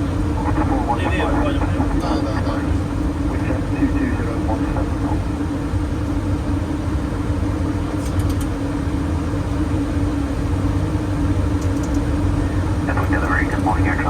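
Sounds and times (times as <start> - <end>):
airflow and engine rumble: 0.0 - 14.0
steady hum: 0.0 - 14.0.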